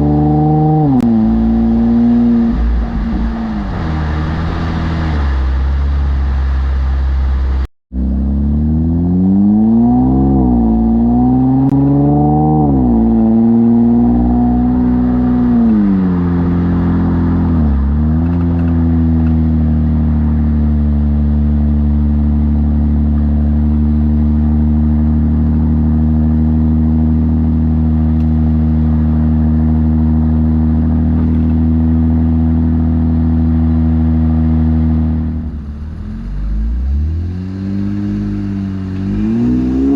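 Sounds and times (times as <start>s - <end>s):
car engine running loudly: 0.0s - 39.9s.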